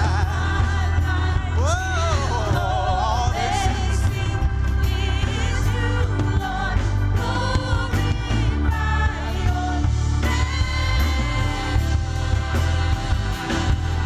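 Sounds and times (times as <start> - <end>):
band with heavy bass: 0.0 - 14.0
gospel singers: 0.0 - 14.0.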